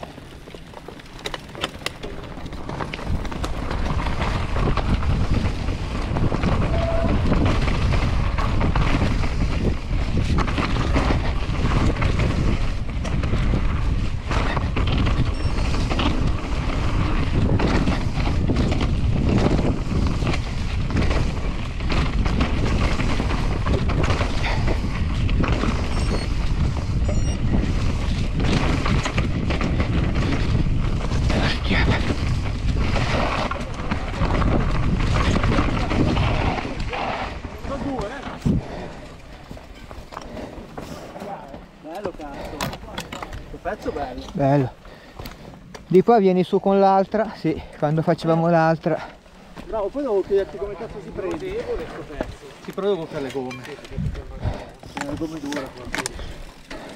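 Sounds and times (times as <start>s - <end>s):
wind buffeting microphone: 0.0s - 46.0s, 48.6s - 56.9s
bike rattling over rocks: 0.0s - 56.9s.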